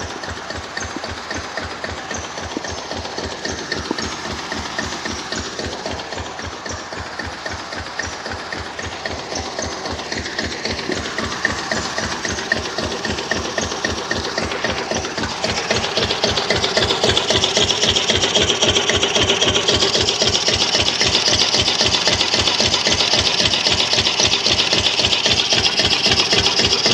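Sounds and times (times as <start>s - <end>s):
engine running: 0.0s - 26.9s.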